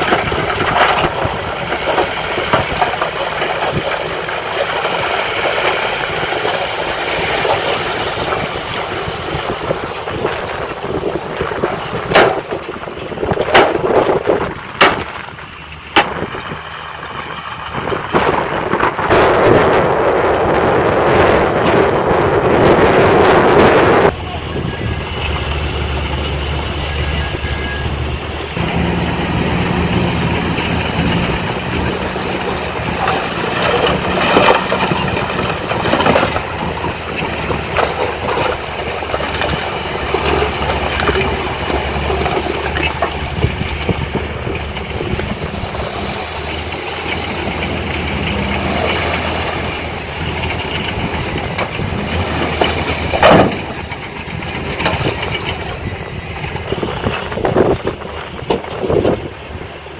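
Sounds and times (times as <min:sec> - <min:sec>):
clanks and knocks: 0:00.0 - 0:19.0, 0:28.4 - 0:59.9
heavy machinery diesel engines: 0:00.0 - 0:59.9
loud rushing rumble: 0:00.0 - 0:59.9.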